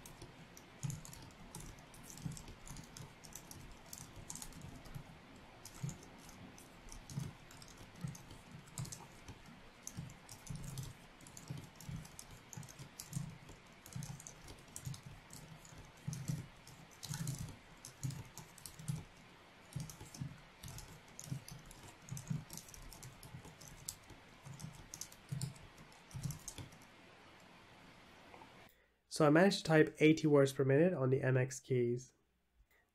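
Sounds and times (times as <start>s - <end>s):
fast typing on keyboard: 0.0s - 27.0s.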